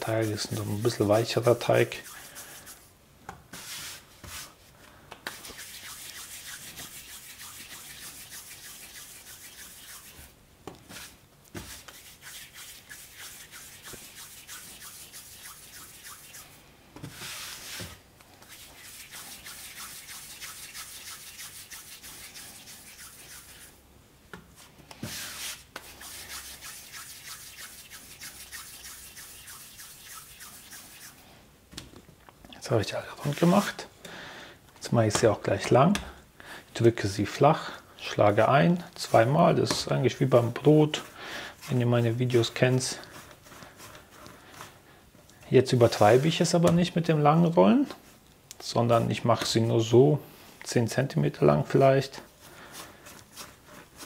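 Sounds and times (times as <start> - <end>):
hands rubbing dough on countertop: 0.0 - 2.9, 3.5 - 23.8, 24.4 - 31.3, 32.7 - 33.9, 36.8 - 44.8, 45.5 - 48.2, 50.6 - 54.0.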